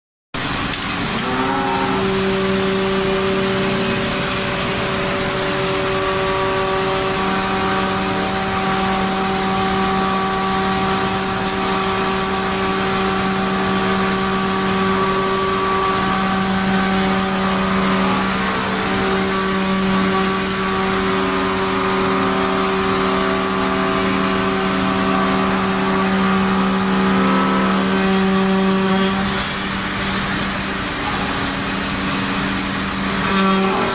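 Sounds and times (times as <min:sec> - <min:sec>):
router spindle hum: 0:00.5 - 0:30.4
router bit cutting wood: 0:00.7 - 0:30.3, 0:33.0 - 0:33.9.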